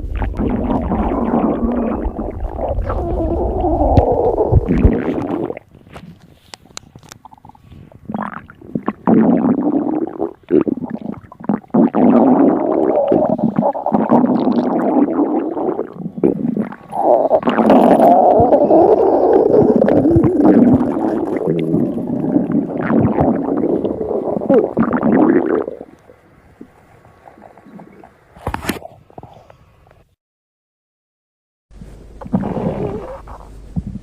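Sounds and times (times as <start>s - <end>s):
stomach growling and gurgling: 0.0s - 29.5s, 31.8s - 34.0s.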